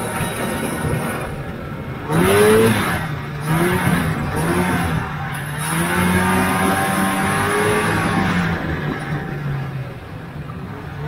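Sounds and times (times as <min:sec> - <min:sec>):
snowmobile engine revving: 0:00.0 - 0:10.7.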